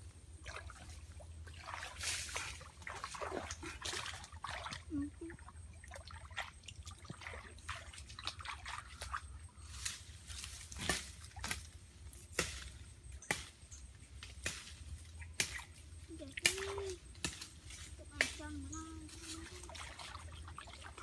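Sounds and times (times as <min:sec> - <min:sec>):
water sloshing and splashing: 0:00.3 - 0:11.7, 0:14.6 - 0:21.0.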